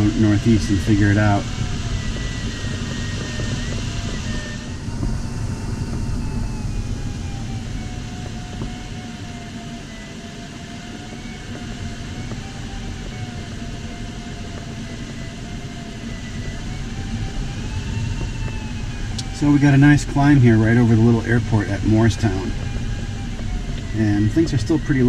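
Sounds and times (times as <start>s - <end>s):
airflow rushing around cockpit: 0.0s - 25.0s
wavering variometer tone: 0.0s - 25.0s.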